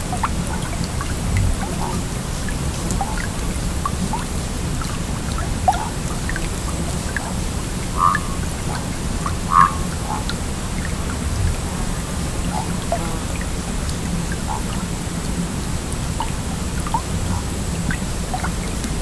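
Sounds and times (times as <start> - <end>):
stream water rushing: 0.0 - 19.0
water bubbling and gurgling: 0.0 - 19.0.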